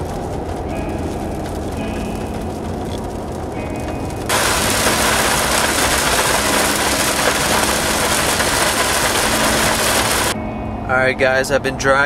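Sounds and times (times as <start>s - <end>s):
heavy rain on windshield: 0.0s - 10.4s.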